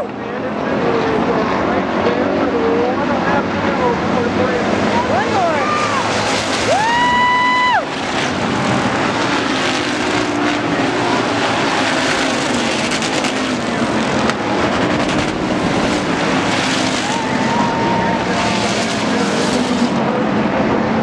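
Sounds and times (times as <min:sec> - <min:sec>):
distant mass of race car engines: 0:00.0 - 0:21.0
race car engine passing close: 0:00.0 - 0:21.0.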